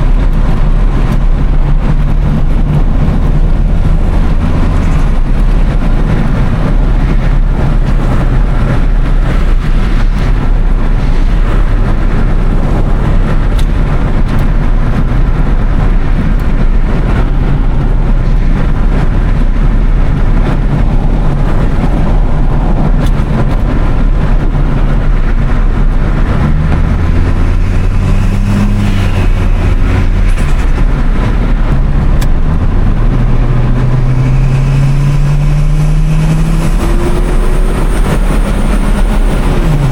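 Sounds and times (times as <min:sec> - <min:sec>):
car engine running: 0:00.0 - 0:39.9
intake and road noise rush: 0:00.0 - 0:39.9.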